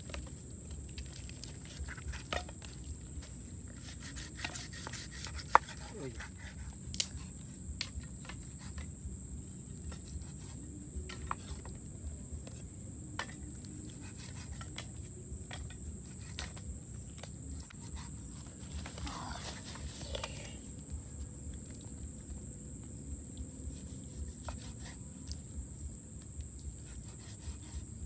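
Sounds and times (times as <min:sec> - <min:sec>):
low background noise: 0:00.0 - 0:28.0
steady high hiss: 0:00.0 - 0:28.0.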